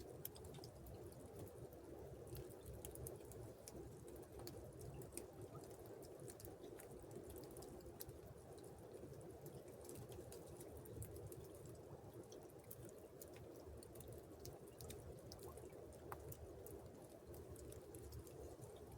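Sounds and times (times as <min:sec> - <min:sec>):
small ticks and drips: 0:00.0 - 0:18.9.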